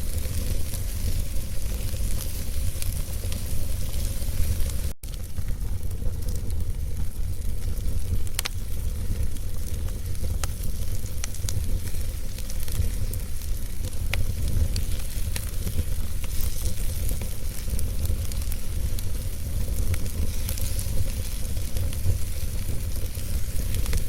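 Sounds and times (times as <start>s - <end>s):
fire rumbling: 0.0s - 24.0s
logs crackling and popping: 0.0s - 24.0s.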